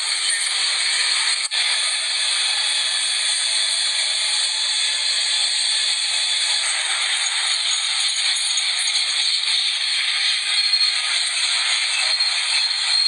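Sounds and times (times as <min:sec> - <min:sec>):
loud steady hissing: 0:00.0 - 0:12.9.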